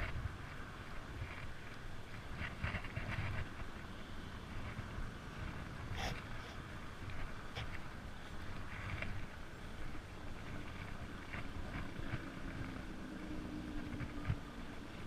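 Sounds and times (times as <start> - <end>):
faint steady drone: 0.0 - 15.0
wind buffeting microphone: 0.0 - 15.0.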